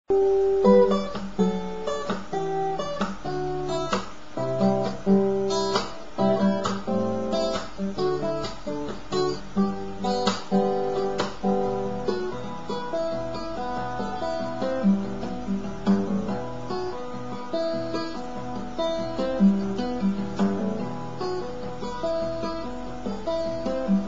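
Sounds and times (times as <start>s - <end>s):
fingerstyle acoustic guitar: 0.1s - 24.0s.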